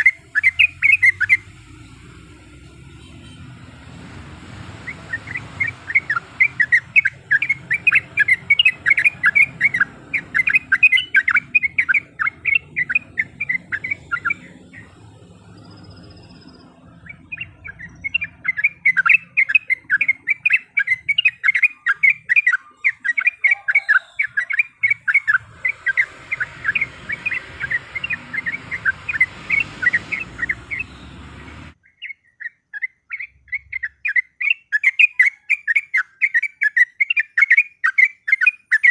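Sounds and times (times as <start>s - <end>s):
bulbul singing bubbly chattering: 0.0s - 38.9s.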